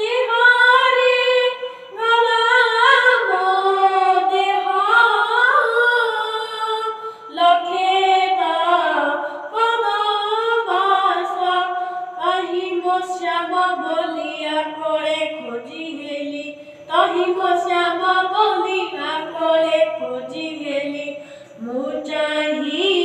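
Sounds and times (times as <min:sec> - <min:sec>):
boy singing unaccompanied: 0:00.0 - 0:23.0.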